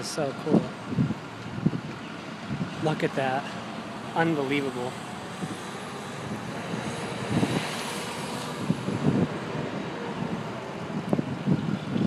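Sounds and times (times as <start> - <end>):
engine passing: 0.0 - 12.0.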